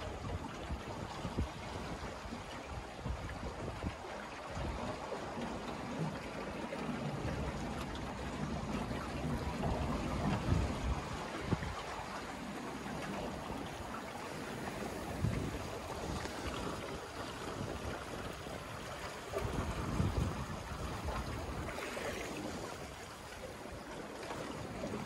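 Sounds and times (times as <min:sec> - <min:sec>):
water rushing along a hull: 0:00.0 - 0:25.0
waves slapping a hull: 0:00.0 - 0:25.0.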